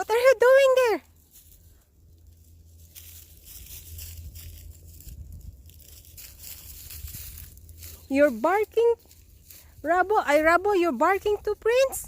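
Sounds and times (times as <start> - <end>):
faint low hum: 0.0 - 12.0
rustling and crackling: 0.4 - 12.0.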